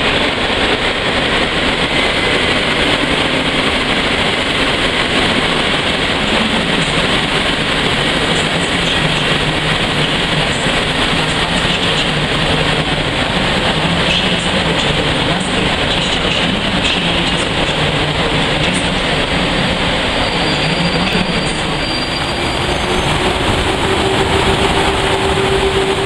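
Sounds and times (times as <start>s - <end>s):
train wheel rumble: 0.0s - 26.0s.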